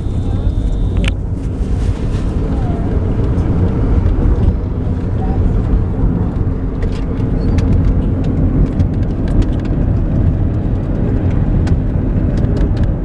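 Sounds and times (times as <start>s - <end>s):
vehicle rumbling on road: 0.0s - 13.0s.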